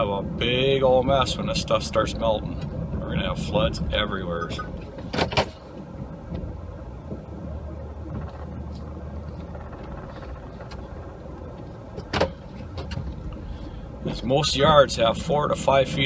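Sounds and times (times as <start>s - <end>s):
pickup truck engine rumbling: 0.0s - 16.0s.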